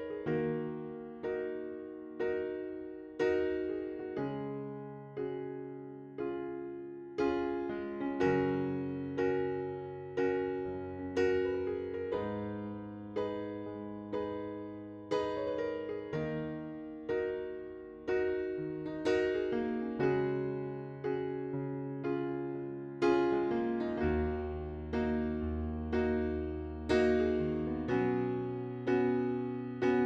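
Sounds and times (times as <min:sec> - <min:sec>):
electric piano chords: 0:00.0 - 0:30.0.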